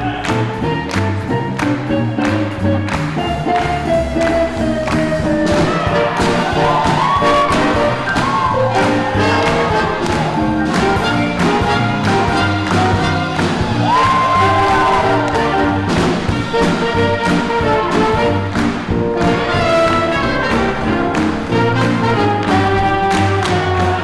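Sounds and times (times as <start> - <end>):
swing band playing: 0.0 - 24.0
horn notes sliding up: 0.7 - 24.0.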